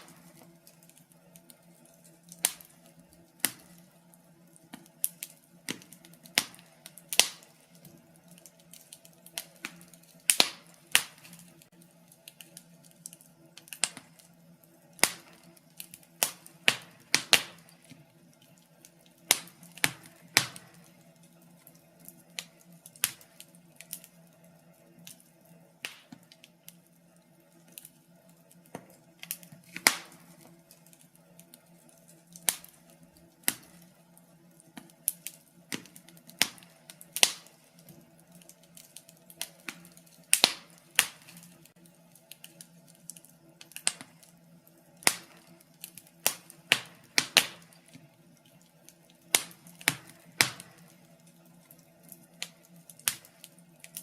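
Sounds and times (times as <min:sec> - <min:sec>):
sharp pops and snaps: 0:00.0 - 0:14.4, 0:15.0 - 0:24.2, 0:25.0 - 0:26.8, 0:27.6 - 0:44.4, 0:45.0 - 0:54.0
wood fire crackling: 0:00.0 - 0:54.0.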